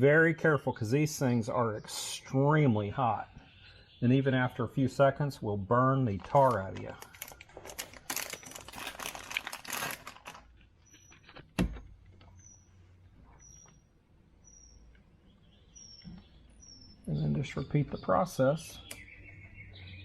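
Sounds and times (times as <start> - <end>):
bird chirping: 0.0 - 9.9, 10.6 - 20.0.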